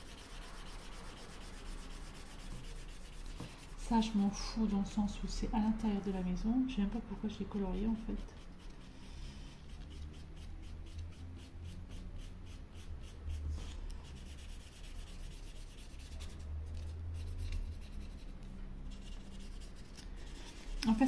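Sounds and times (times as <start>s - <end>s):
marker scratching on wood: 0.0s - 4.3s, 7.4s - 21.0s
low steady hum: 0.0s - 21.0s.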